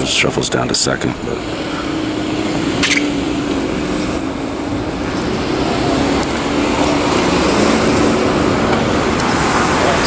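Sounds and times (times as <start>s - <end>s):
street traffic: 0.0s - 10.0s
low engine hum: 0.6s - 10.0s.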